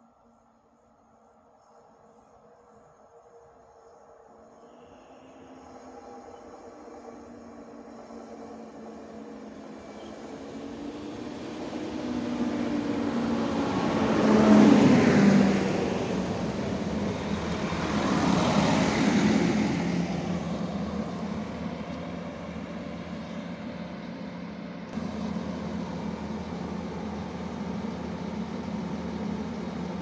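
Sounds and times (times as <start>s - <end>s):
diesel train passing: 4.0s - 30.0s.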